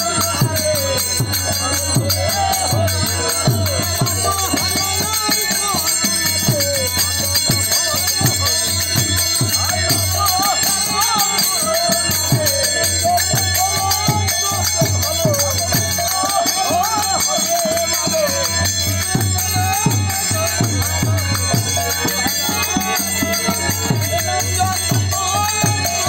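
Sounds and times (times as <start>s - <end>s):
harmonium melody: 0.0s - 26.0s
man singing: 0.0s - 26.0s.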